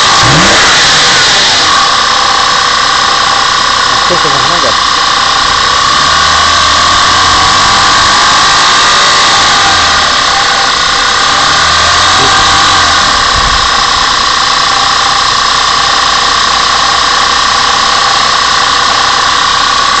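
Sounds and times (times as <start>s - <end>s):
car engine idling: 0.0s - 20.0s
high engine whine: 0.0s - 20.0s.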